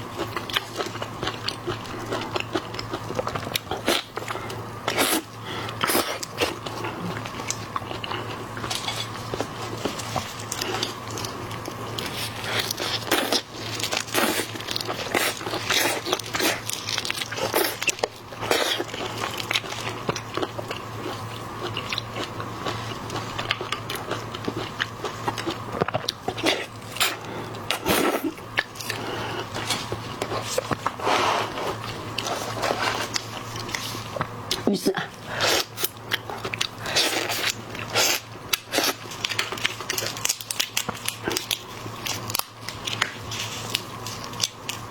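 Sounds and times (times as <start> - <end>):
crunchy wet chewing: 0.0 - 44.9
steady low hum: 0.0 - 44.9.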